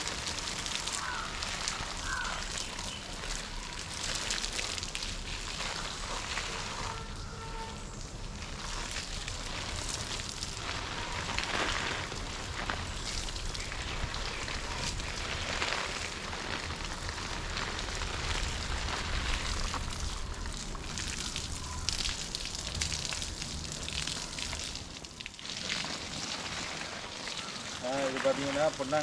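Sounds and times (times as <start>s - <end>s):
hose water pattering on leaves: 0.0s - 29.0s.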